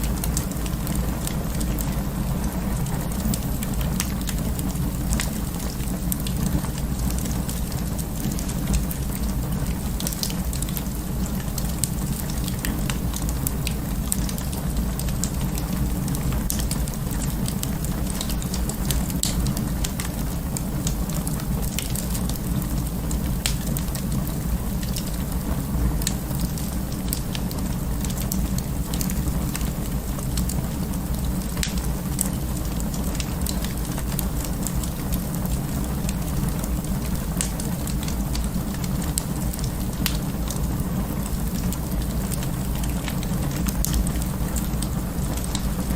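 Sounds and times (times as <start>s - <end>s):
fire popping and snapping: 0.0s - 45.9s
wood fire crackling: 0.0s - 45.9s.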